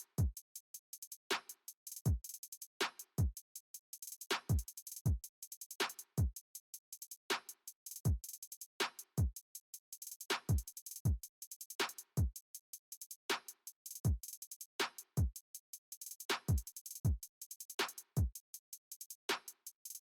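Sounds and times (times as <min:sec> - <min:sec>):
hi-hat ticks: 0:00.0 - 0:20.0.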